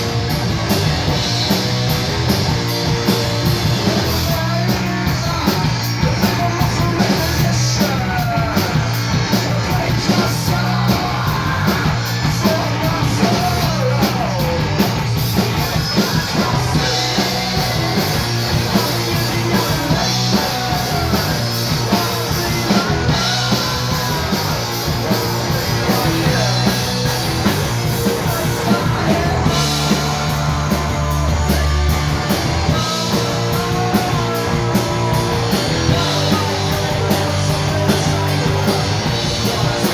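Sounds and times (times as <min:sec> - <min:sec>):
punk rock band playing: 0:00.0 - 0:39.9.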